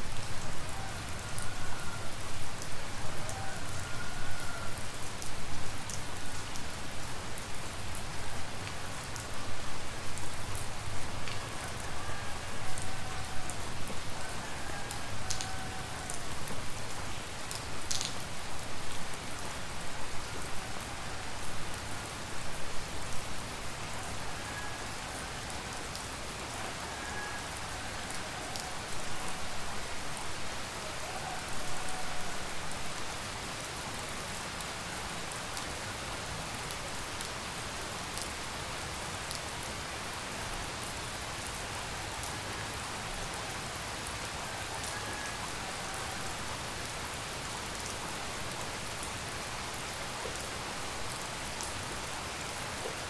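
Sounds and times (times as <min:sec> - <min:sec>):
rain falling steadily: 0:00.0 - 0:53.0.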